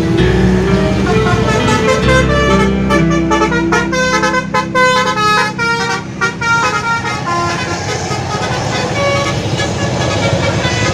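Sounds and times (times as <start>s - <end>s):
multi-tone bus horn tune: 0.0s - 10.9s
noisy rumble: 0.0s - 10.9s.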